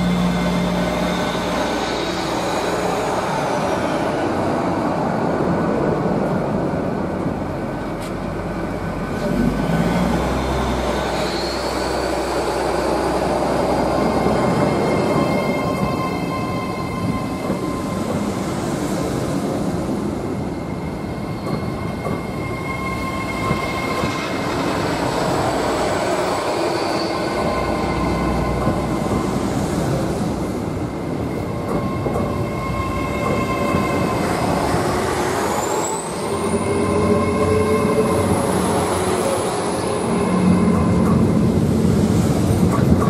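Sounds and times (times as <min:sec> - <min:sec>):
diesel train rumble: 0:00.0 - 0:43.0
high train whine rising in pitch: 0:00.0 - 0:43.0.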